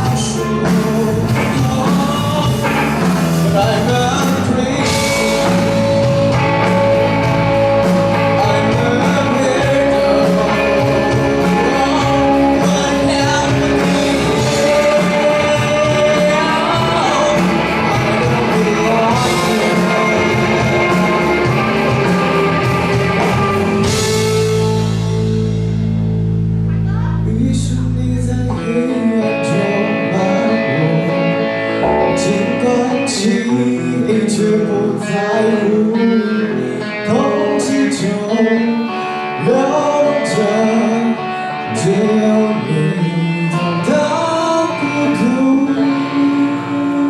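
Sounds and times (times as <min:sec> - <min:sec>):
lead vocalist singing: 0:00.0 - 0:25.0, 0:26.9 - 0:47.0
bass: 0:00.0 - 0:47.0
drums: 0:00.0 - 0:47.0
electric guitar: 0:00.0 - 0:47.0.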